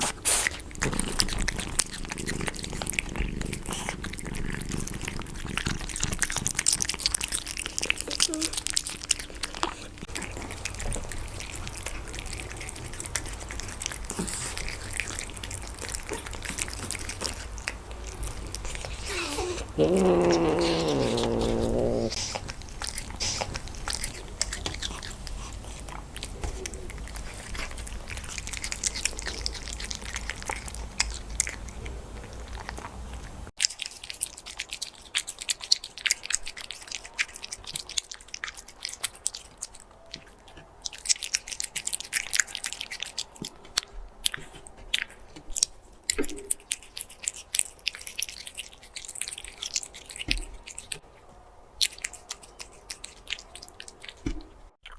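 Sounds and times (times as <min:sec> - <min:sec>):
cat crunching food: 0:00.0 - 0:51.0, 0:51.8 - 0:54.9.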